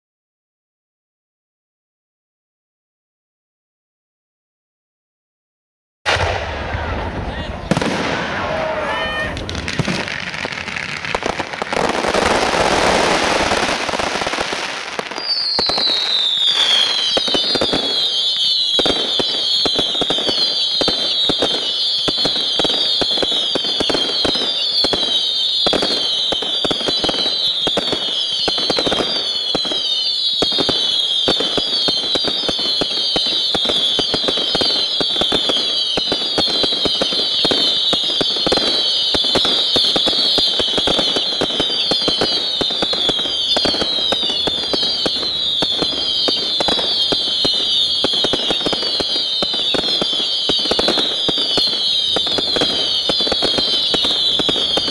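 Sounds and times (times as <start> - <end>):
fireworks pops and crackles: 6.1 - 54.9
whistling fireworks: 6.1 - 54.9.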